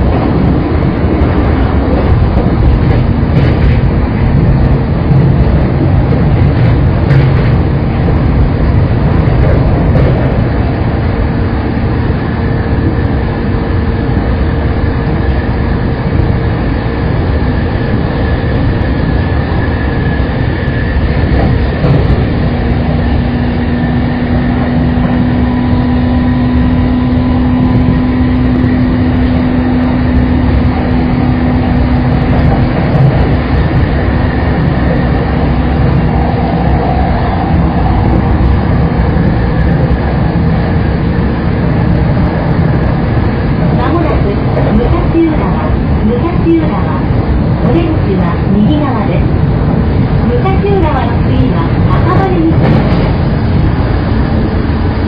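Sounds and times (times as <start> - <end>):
steady humming tone: 0.0 - 55.0
train wheels rumbling on rail: 0.0 - 55.0.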